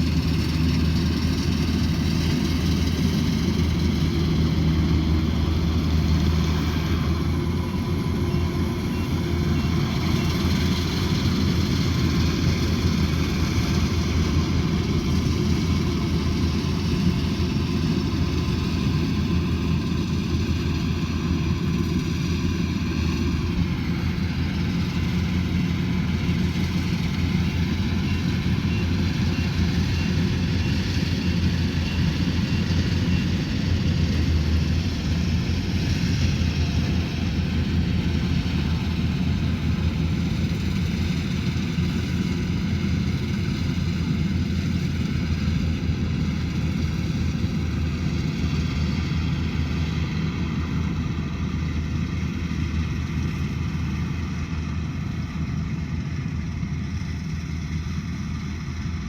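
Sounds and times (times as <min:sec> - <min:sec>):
combine harvester engine droning: 0:00.0 - 0:59.0.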